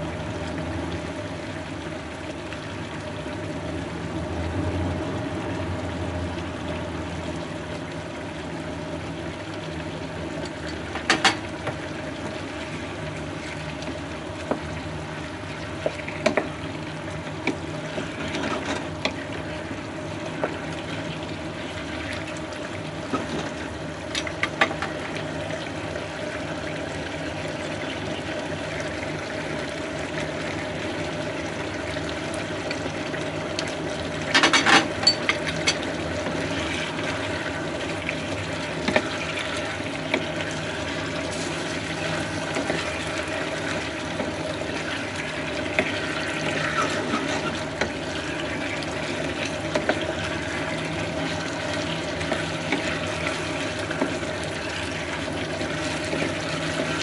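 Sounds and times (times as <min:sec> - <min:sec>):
constant hum: 0:00.0 - 0:57.0
sauce bubbling in frying pan: 0:00.0 - 0:57.0.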